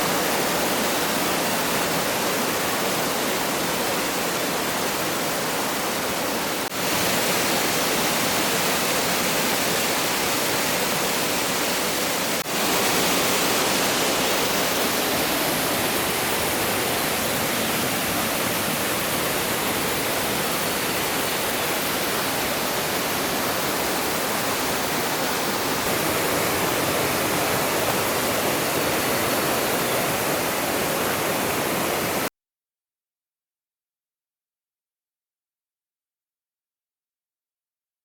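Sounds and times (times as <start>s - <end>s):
stream water rushing: 0.0s - 32.3s.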